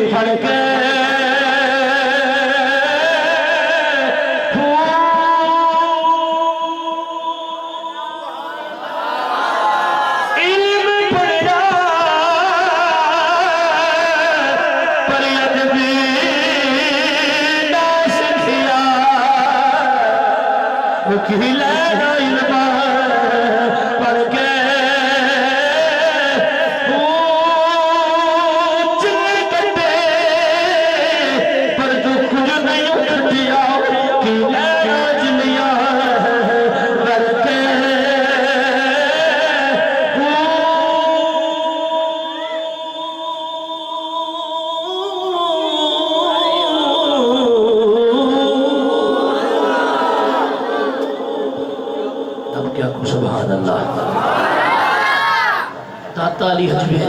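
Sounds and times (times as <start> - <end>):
person chanting devotional verse: 0.0 - 8.9, 9.6 - 54.2, 55.6 - 57.0.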